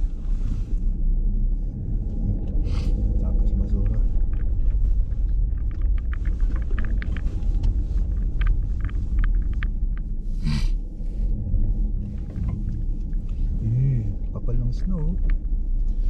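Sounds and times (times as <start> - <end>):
car road rumble on snow: 0.0 - 16.0.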